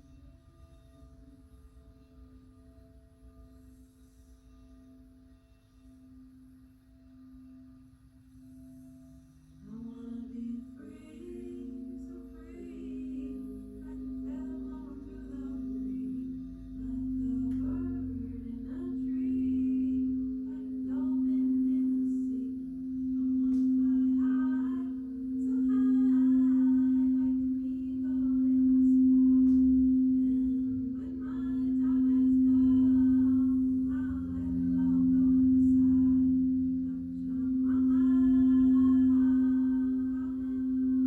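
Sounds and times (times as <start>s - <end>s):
singing bowl low tone: 0.0s - 41.0s.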